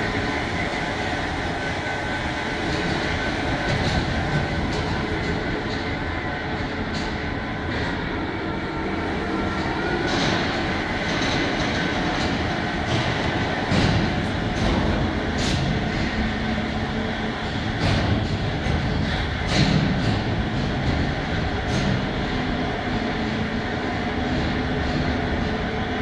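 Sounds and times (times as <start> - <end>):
transport cart rolling rumble: 0.0 - 26.0.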